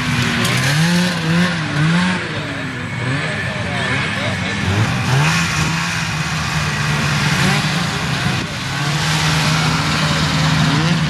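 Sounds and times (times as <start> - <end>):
snowmobile engines droning: 0.0 - 11.0.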